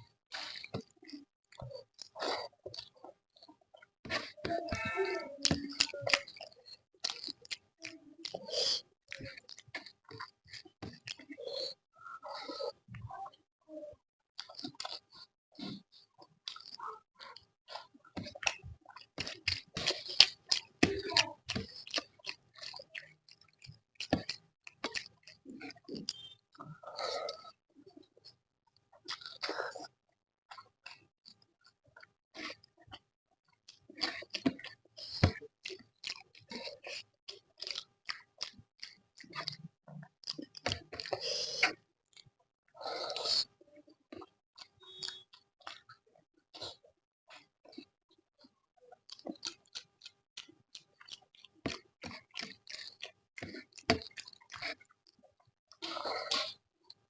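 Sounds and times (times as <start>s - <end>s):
person chewing food: 0.0s - 13.8s, 14.4s - 57.0s.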